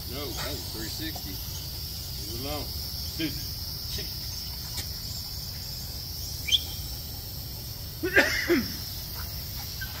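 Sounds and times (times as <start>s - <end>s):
high-pitched background hiss: 0.0s - 10.0s.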